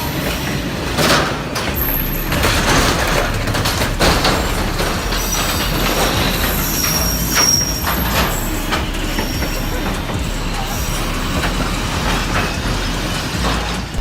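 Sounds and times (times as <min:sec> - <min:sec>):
high-pitched wheel squeals: 0:00.0 - 0:14.0
train clanks: 0:00.0 - 0:14.0
train rail rumble: 0:00.0 - 0:14.0.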